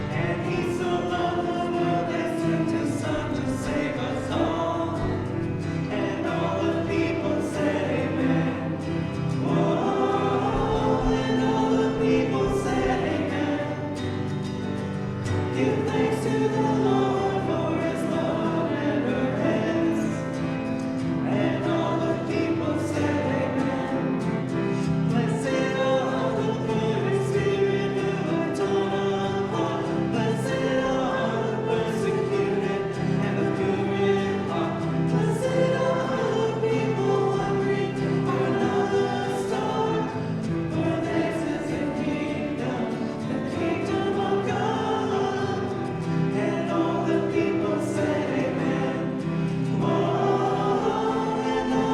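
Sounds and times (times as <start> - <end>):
group singing a hymn: 0.0 - 51.9.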